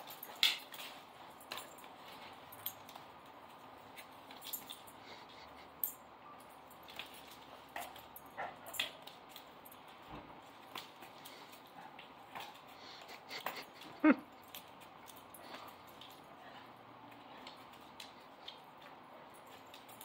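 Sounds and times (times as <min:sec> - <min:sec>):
dog claws clicking on concrete: 0:00.0 - 0:06.0, 0:06.7 - 0:20.0.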